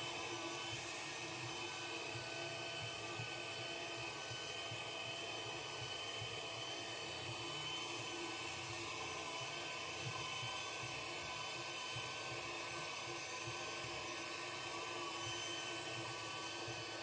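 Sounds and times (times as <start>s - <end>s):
window cleaning robot fan whine: 0.0s - 17.0s.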